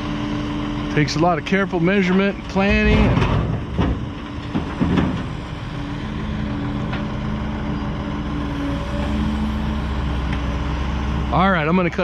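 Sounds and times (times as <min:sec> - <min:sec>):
diesel machinery engine hum: 0:00.0 - 0:12.0
engine whine: 0:00.0 - 0:12.0.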